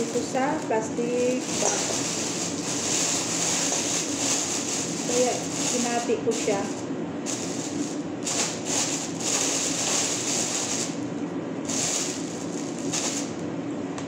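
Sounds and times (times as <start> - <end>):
plastic bag rustling: 0.0 - 11.0, 11.7 - 13.4
steady low hum: 0.0 - 14.0.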